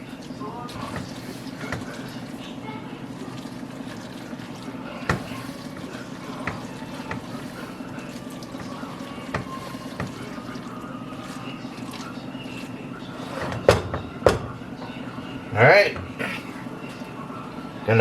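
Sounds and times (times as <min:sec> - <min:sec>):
wet stirring in a pot: 0:00.0 - 0:17.7.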